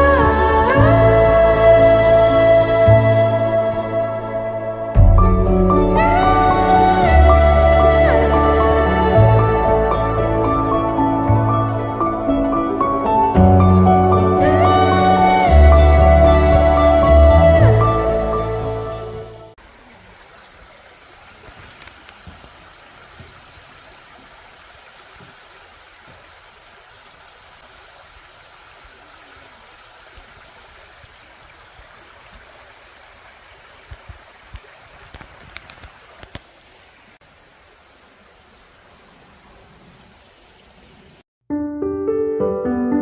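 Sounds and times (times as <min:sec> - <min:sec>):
running water rushing: 0:00.0 - 0:41.2.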